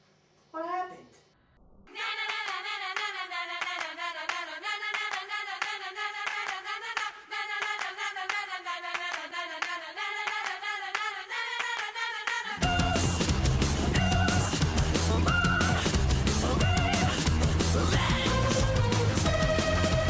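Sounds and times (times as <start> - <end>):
rhythmic hand clapping: 2.2 - 20.0.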